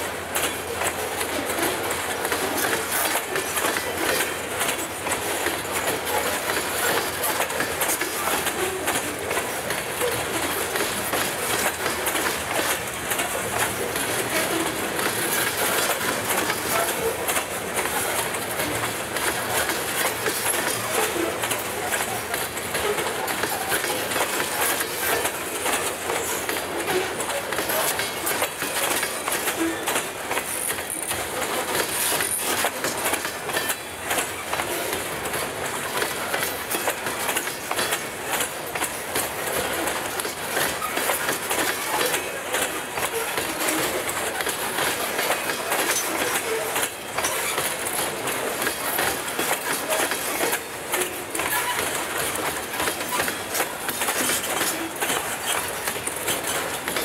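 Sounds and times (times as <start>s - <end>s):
train wheels rolling on rails: 0.0s - 57.0s
wheels clicking over rail joints: 0.0s - 57.0s.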